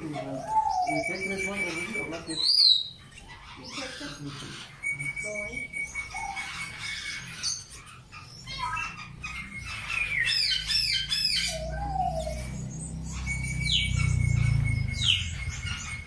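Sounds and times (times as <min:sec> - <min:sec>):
canaries chirping and singing: 0:00.0 - 0:16.0.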